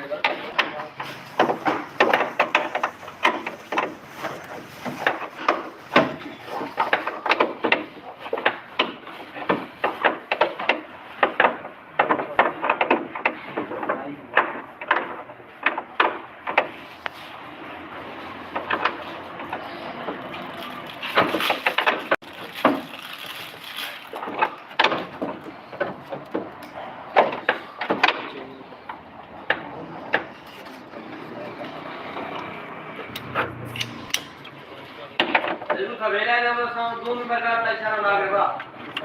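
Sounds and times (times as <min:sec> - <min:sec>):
hand tools and parts clattering: 0:00.0 - 0:36.0.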